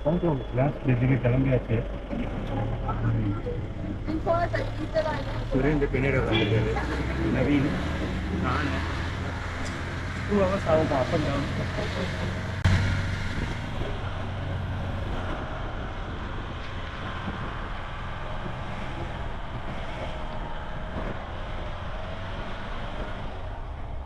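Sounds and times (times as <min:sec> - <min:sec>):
vehicle running: 0:00.0 - 0:24.0
wind rushing over microphone: 0:03.6 - 0:24.0.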